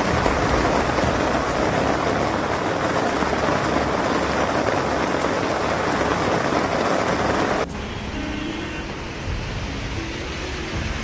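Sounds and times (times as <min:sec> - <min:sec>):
heavy rain on paved road: 0:00.0 - 0:11.0.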